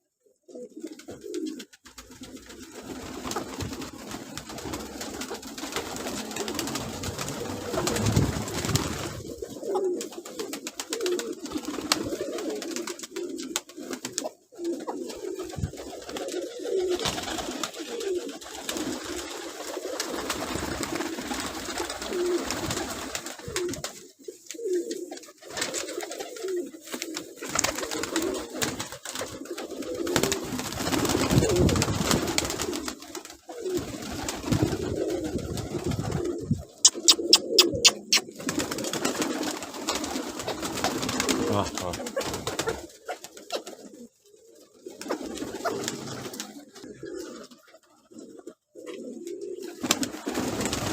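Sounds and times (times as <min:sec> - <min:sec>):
pigeons cooing: 0:00.3 - 0:50.9.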